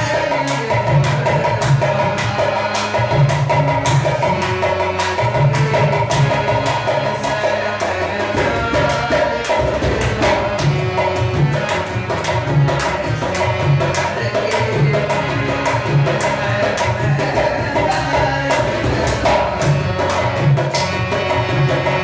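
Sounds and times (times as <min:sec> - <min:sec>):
dholak drumming: 0:00.0 - 0:22.0.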